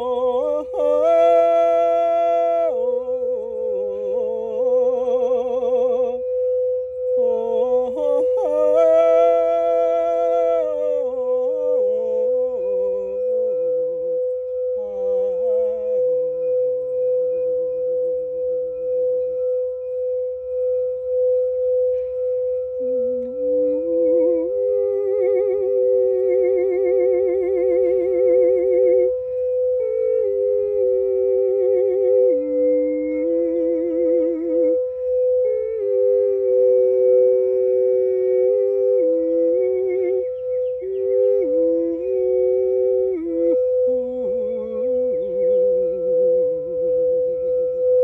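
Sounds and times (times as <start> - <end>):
person humming with vibrato: 0.0 - 17.8, 22.8 - 48.0
singing bowl ringing: 2.0 - 36.7, 43.3 - 48.0.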